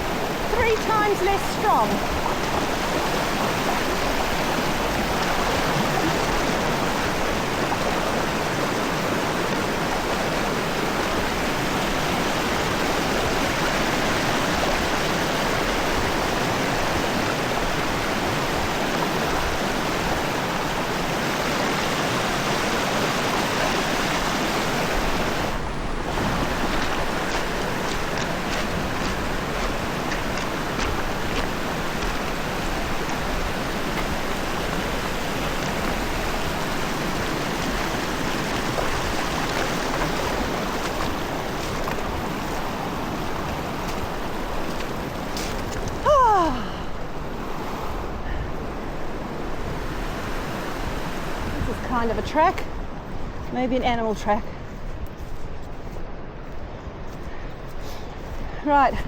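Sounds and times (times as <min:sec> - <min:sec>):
river current rushing: 0:00.0 - 0:54.9.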